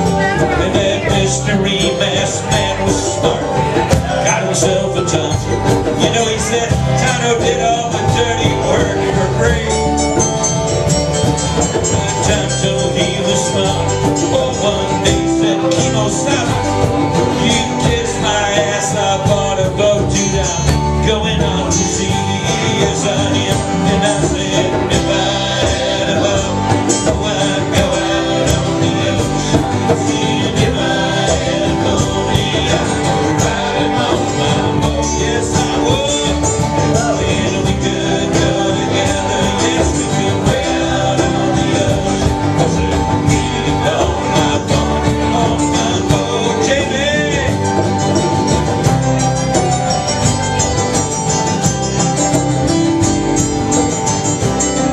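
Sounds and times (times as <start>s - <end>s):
live band playing country music: 0.0s - 54.9s.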